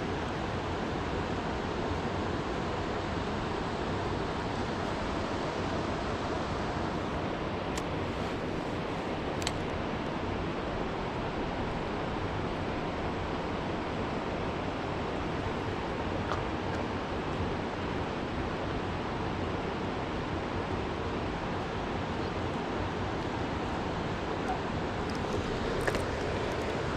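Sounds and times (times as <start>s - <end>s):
river water rushing: 0.2s - 26.9s.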